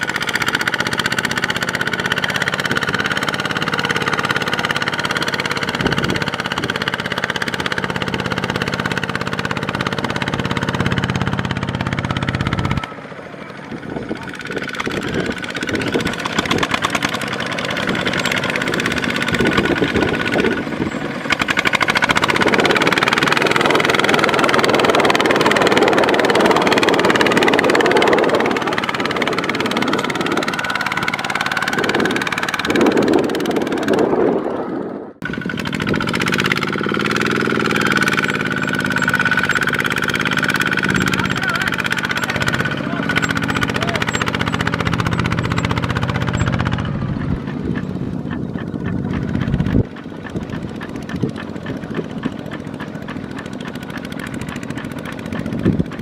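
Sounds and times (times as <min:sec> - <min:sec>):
diesel engines running: 0:00.0 - 0:56.0.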